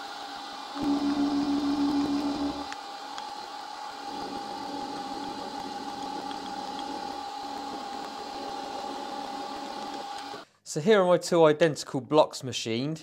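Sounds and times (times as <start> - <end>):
milling spindle whine: 0.0 - 10.4.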